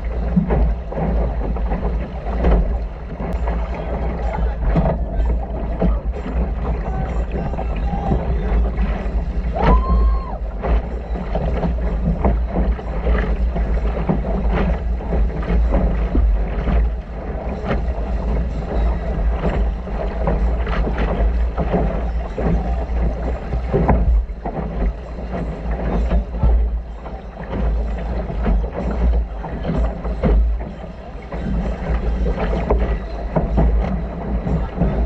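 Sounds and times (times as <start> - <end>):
water slapping against boat hull: 0.0 - 35.0
wind rumble on microphone: 0.0 - 35.0.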